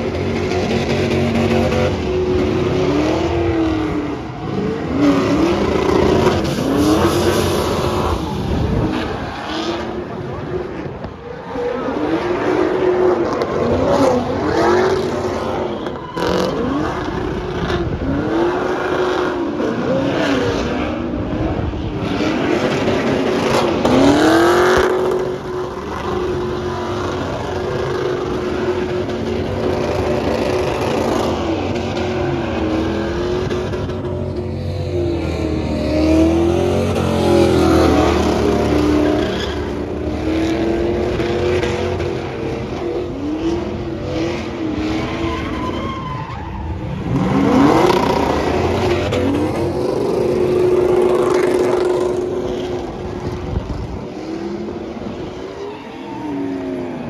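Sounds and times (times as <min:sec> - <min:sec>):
truck engine revving: 0:00.0 - 0:55.4.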